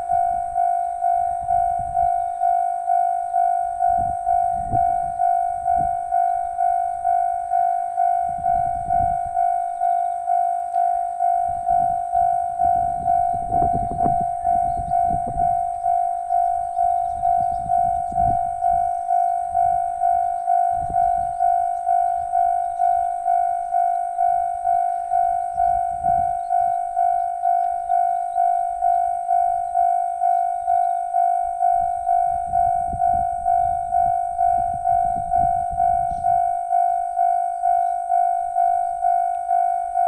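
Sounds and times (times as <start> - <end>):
level crossing warning bell ringing: 0.0 - 40.0.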